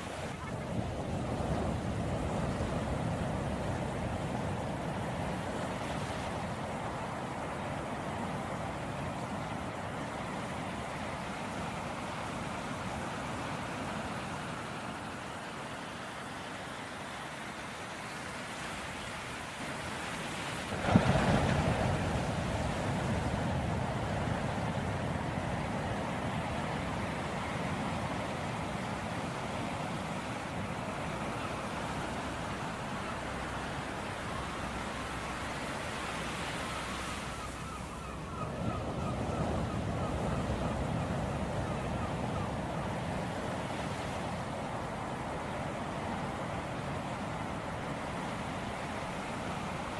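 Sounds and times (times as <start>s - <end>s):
waves washing: 0.0s - 49.9s.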